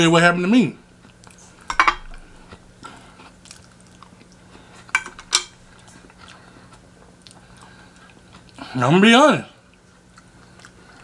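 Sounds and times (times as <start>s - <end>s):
person chewing: 1.0s - 8.6s, 9.6s - 11.0s.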